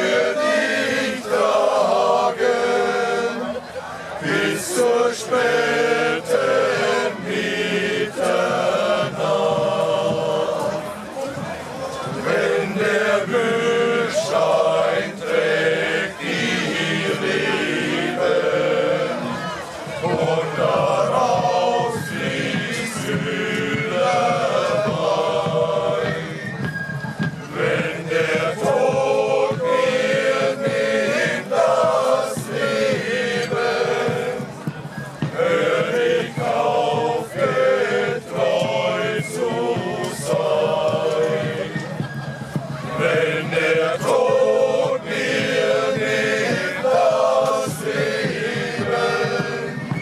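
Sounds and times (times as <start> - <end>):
group of people singing: 0.0 - 26.8, 27.5 - 50.0.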